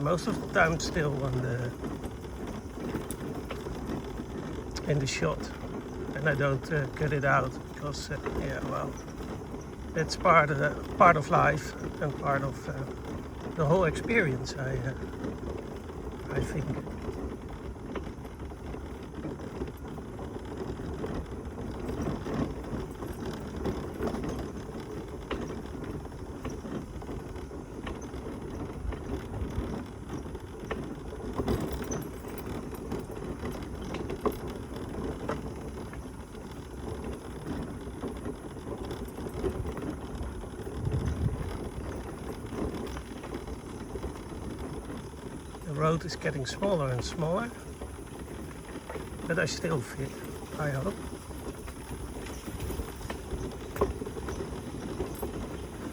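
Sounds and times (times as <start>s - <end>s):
scooter body rattling: 0.0s - 55.9s
scooter wheels rumbling: 0.0s - 55.9s.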